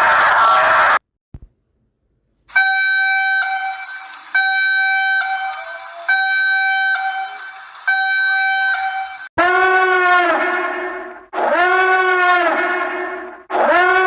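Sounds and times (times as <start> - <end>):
alert alarm horn blasts: 2.5 - 14.0.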